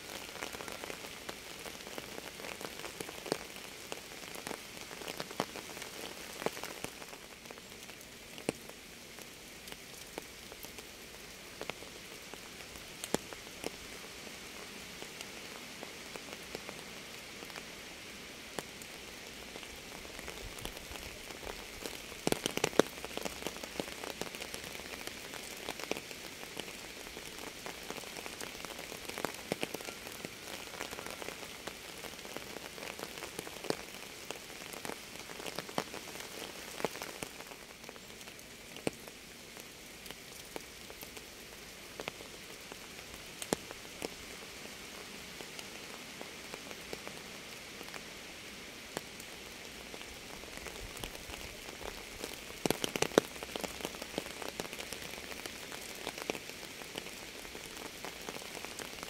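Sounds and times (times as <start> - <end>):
rain drops ticking on hard surface: 0.0 - 59.0.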